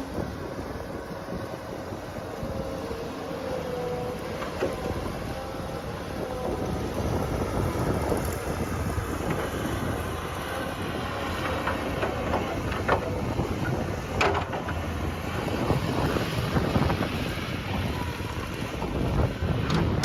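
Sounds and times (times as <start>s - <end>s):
heavy machinery rumbling: 0.0s - 20.0s
wind buffeting microphone: 0.0s - 20.0s.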